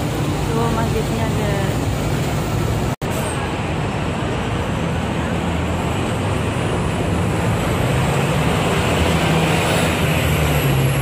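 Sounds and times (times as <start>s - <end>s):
street traffic drone: 0.0s - 11.0s.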